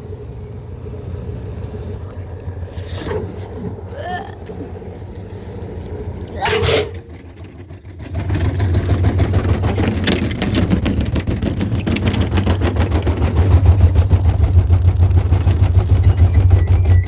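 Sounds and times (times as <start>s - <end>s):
washing machine humming and rattling: 0.0s - 17.0s.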